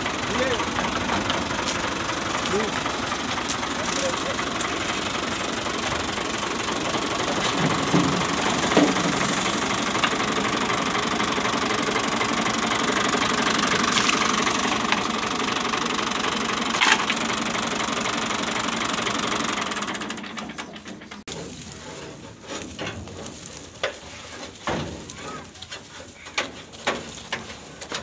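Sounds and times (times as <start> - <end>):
thresher mechanical clatter: 0.0 - 28.0
tractor engine: 0.0 - 28.0.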